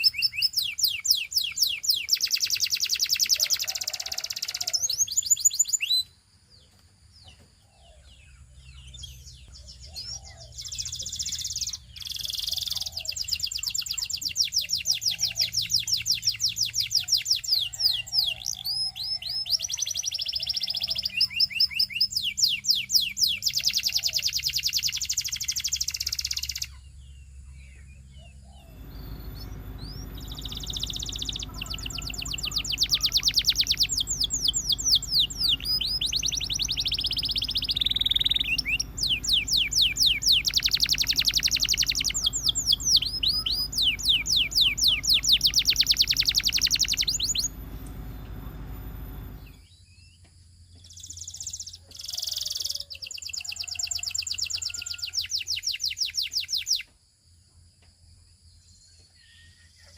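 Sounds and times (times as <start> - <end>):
canary singing fast trills: 0.0 - 49.7, 50.9 - 56.9.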